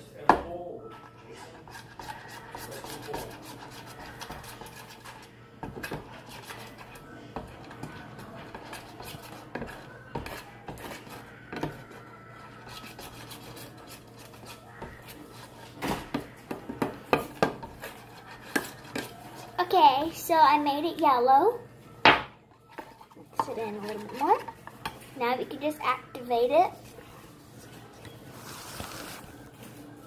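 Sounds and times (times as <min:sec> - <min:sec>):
utensil scraping a bowl: 0:01.0 - 0:19.8, 0:22.6 - 0:25.1, 0:26.2 - 0:29.5.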